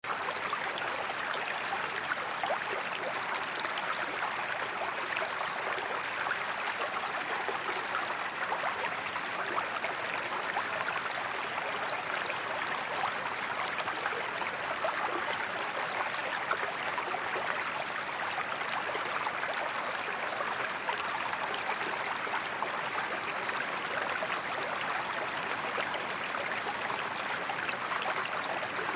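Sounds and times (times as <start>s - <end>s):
river water flowing: 0.0s - 28.9s.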